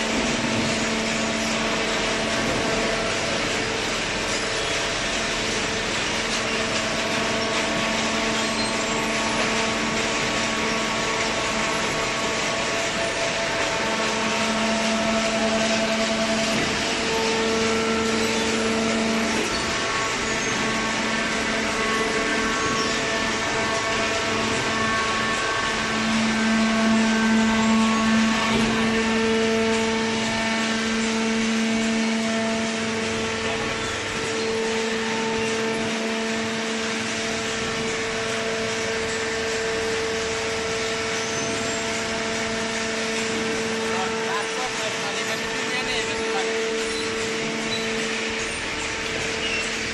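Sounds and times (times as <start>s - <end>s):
machinery whine: 0.0s - 49.9s.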